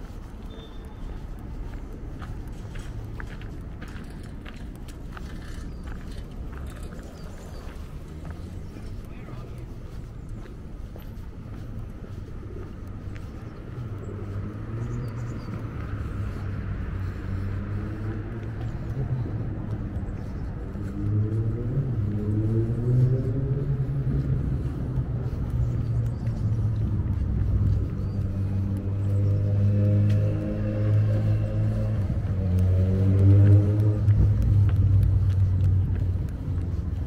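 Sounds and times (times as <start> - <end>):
traffic rumble: 0.0 - 37.0
vehicle engine running: 1.6 - 37.0.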